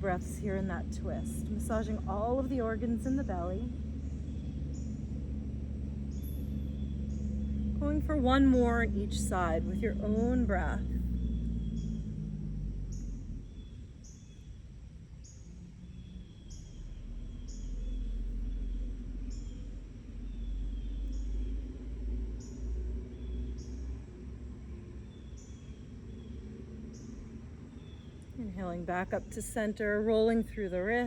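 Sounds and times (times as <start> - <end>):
bird chirping: 0.0 - 24.2, 24.9 - 31.0
low outdoor rumble: 0.0 - 31.0.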